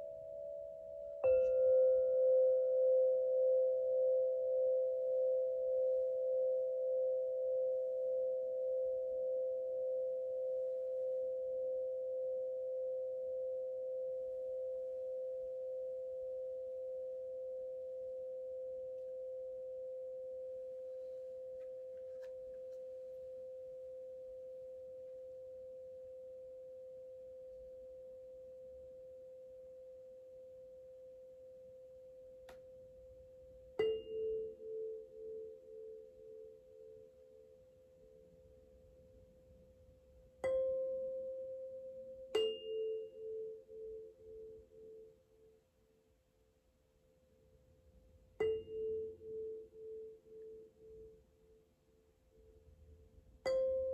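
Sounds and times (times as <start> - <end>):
singing bowl ringing: 0.0 - 32.9, 33.7 - 38.3, 40.4 - 45.6, 48.4 - 51.6, 53.4 - 53.9.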